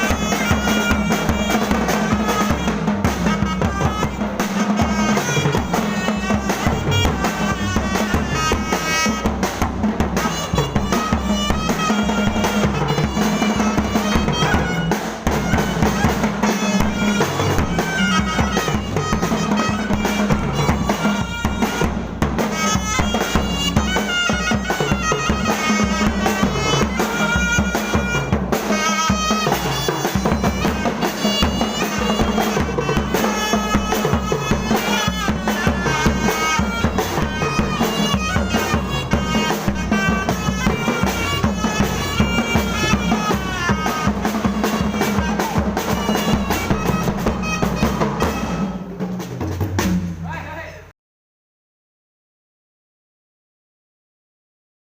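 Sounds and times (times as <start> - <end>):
reedy wind instrument melody: 0.0 - 49.2
driving drum and percussion beats: 0.0 - 50.9.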